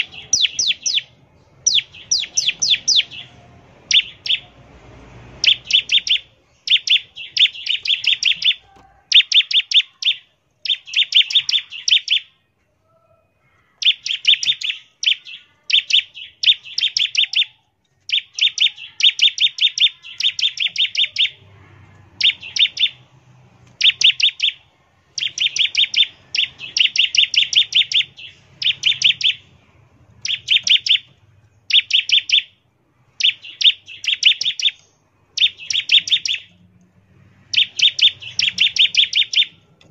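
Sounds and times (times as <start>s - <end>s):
bird singing stuttering bursts: 0.0s - 12.4s, 13.8s - 36.6s, 37.3s - 39.7s.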